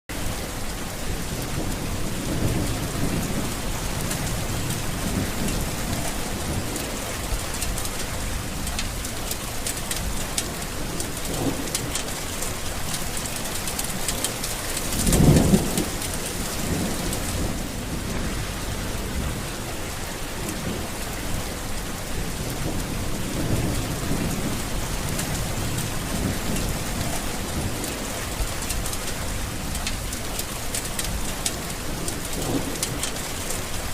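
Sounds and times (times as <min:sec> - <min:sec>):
heavy rain falling: 0:00.1 - 0:33.9
low thunder rumbling: 0:00.2 - 0:33.9.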